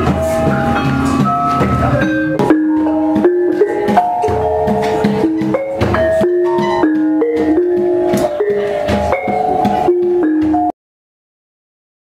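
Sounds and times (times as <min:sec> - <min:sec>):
gamelan gongs and metallophones: 0:00.0 - 0:10.7.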